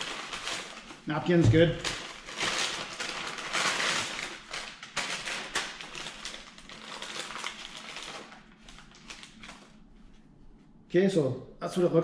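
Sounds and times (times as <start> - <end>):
paper wrapper crinkling: 0.0 - 10.2.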